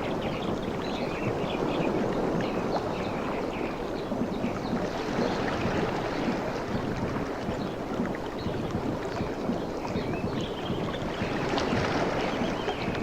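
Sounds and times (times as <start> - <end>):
waves lapping on a beach: 0.0 - 13.0.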